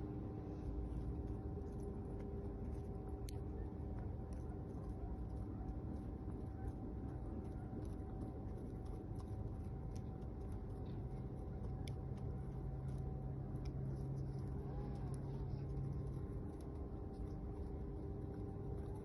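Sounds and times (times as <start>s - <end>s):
deeper steady hum: 0.0s - 19.0s
steady low rumble: 0.0s - 19.0s.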